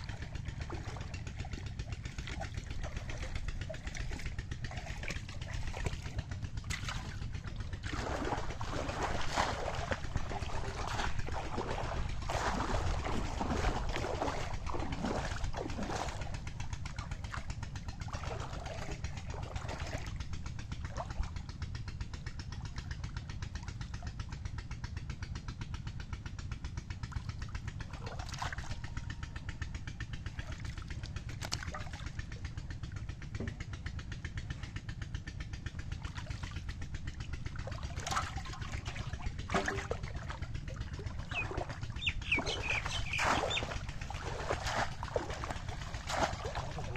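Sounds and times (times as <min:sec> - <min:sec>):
low rumble: 0:00.0 - 0:46.9
muddy water splashing: 0:00.0 - 0:46.9.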